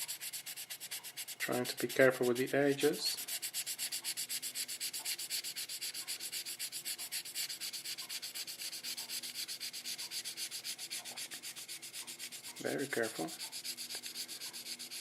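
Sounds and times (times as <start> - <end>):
wet sandpaper rasping: 0.0 - 15.0.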